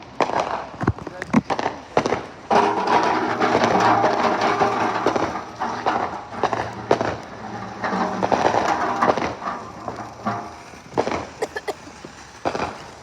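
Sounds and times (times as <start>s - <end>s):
firework crackling and fizzing: 0.0s - 13.0s.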